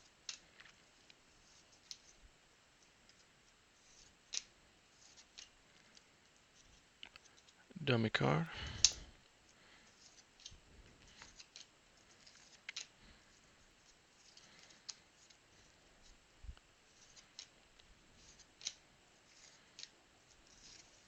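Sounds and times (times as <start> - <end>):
trading cards clicking and scraping: 0.2 - 2.2, 2.8 - 7.6, 9.7 - 16.2, 16.9 - 21.0.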